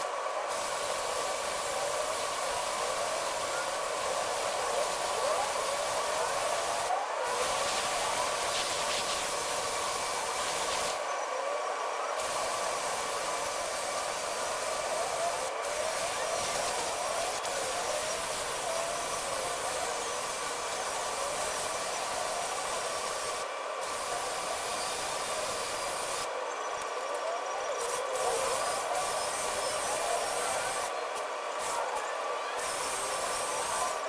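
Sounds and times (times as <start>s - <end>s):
rasping hiss: 0.0s - 11.1s, 12.1s - 26.3s, 27.8s - 34.0s.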